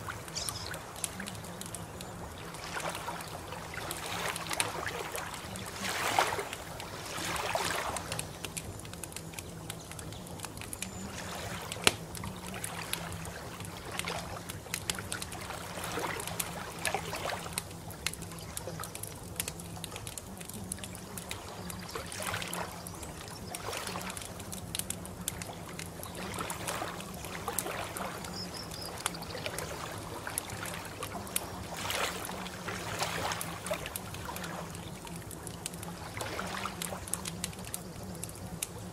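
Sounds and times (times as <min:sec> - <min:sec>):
water lapping and trickling: 0:00.0 - 0:38.9.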